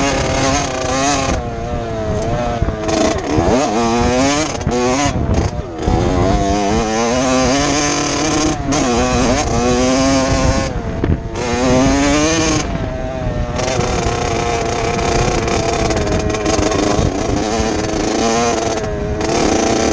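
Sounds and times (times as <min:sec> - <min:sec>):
two-stroke dirt bike engine revving: 0:00.0 - 0:19.9.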